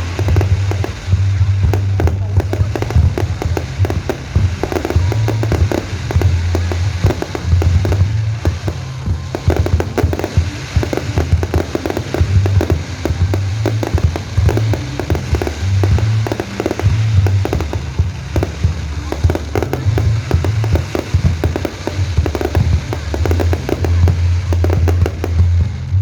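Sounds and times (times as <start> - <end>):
fireworks bangs and crackling: 0.0 - 26.0
music playing: 0.0 - 26.0.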